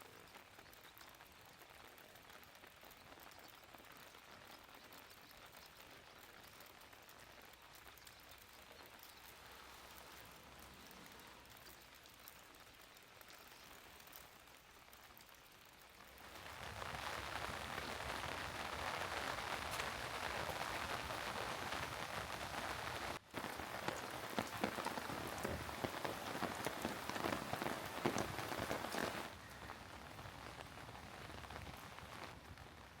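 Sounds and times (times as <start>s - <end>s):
close sharp raindrops: 0.0s - 33.0s
steady rainfall: 0.0s - 33.0s.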